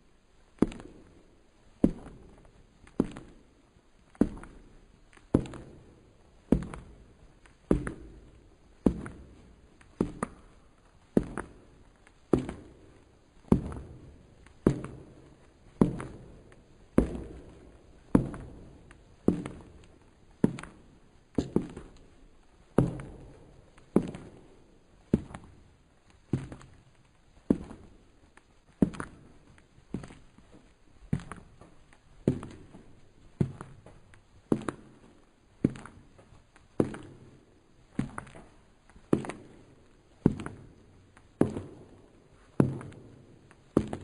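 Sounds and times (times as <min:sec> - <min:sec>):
slow footsteps on hard floor: 0:00.4 - 0:44.0.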